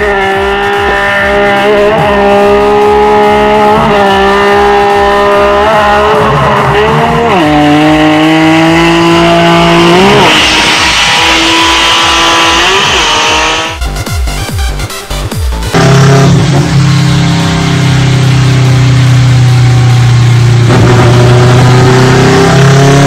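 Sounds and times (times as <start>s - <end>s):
car engine revving: 0.0s - 13.8s, 15.7s - 23.0s
electronic music beat: 0.0s - 22.9s.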